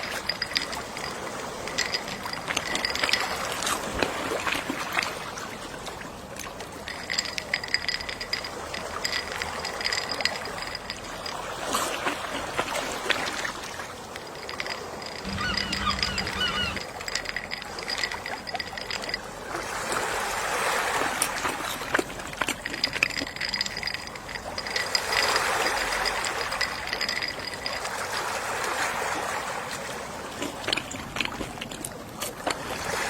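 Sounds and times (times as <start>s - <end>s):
sea waves washing ashore: 0.0s - 22.8s, 23.5s - 33.0s.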